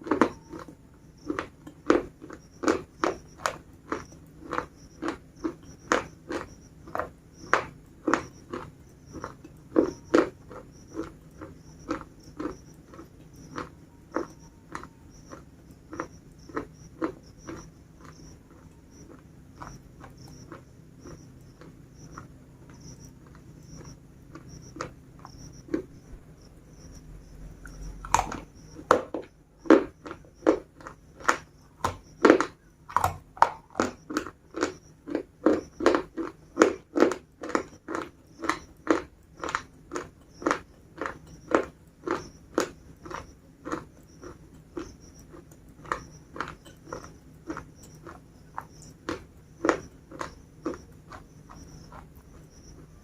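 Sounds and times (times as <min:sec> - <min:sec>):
biscuits crunching being chewed: 0:00.0 - 0:53.0.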